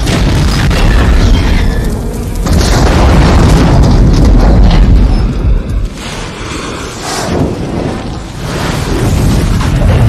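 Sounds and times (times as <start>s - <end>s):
explosion blast and fireball roar: 0.0s - 10.0s.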